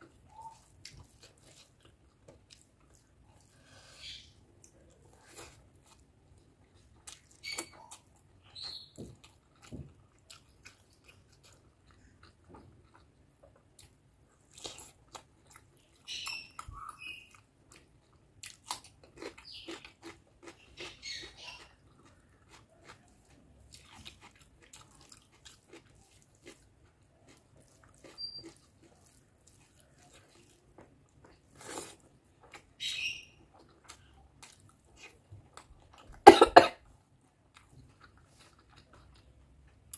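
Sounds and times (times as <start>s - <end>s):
chewing with wet mouth smacks: 0.0s - 3.6s, 4.5s - 36.2s.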